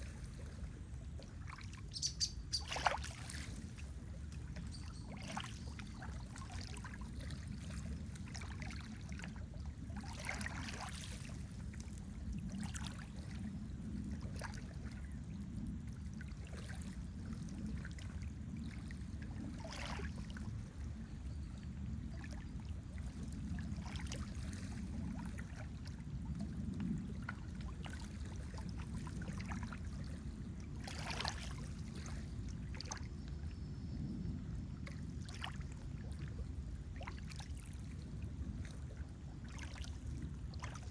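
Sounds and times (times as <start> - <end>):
water lapping at shore: 0.0 - 40.9.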